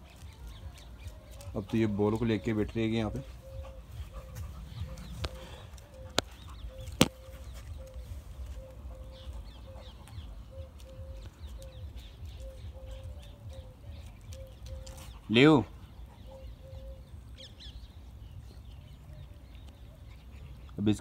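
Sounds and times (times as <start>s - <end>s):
birds calling faintly: 0.0s - 21.0s.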